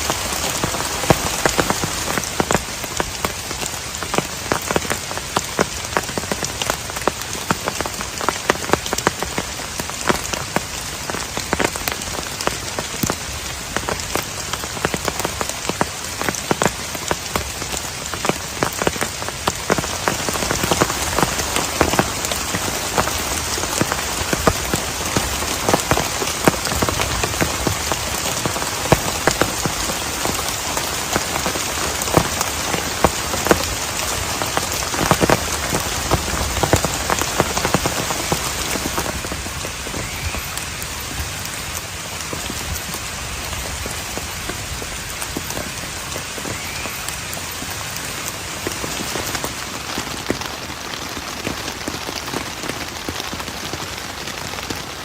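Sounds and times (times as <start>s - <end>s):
heavy rain falling: 0.0s - 55.0s
raindrops pattering on surface: 0.0s - 55.0s.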